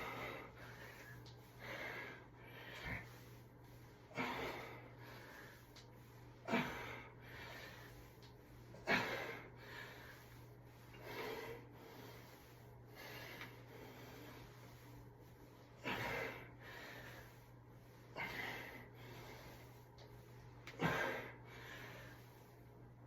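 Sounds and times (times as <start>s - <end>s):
person breathing hard: 0.0s - 22.7s.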